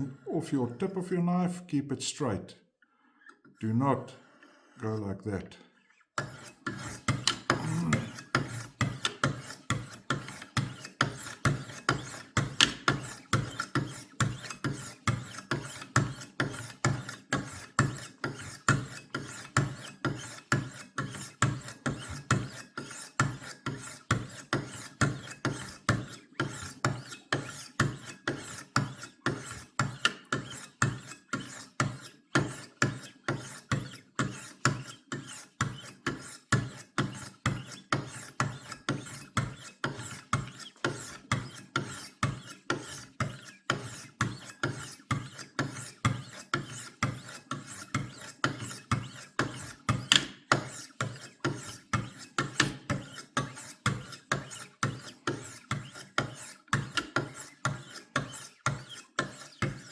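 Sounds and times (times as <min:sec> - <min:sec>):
sharpening stone scraping knife: 0:05.8 - 0:59.9.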